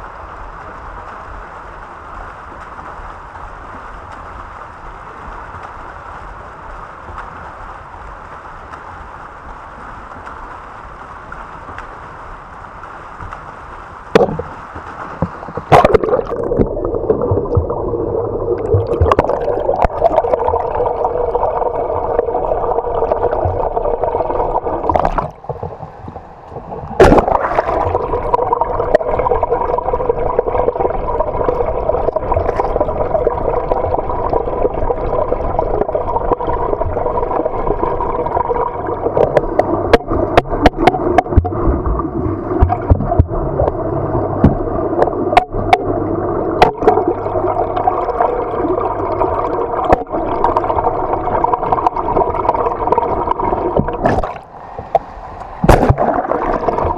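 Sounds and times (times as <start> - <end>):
underwater rush of water: 0.0 - 56.9.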